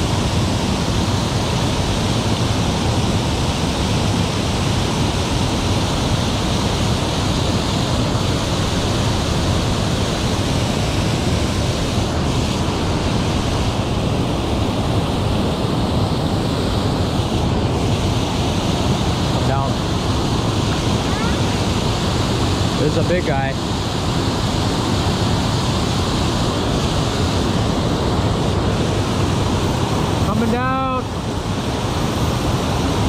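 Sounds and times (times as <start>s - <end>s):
water rushing over spillway: 0.0s - 33.0s.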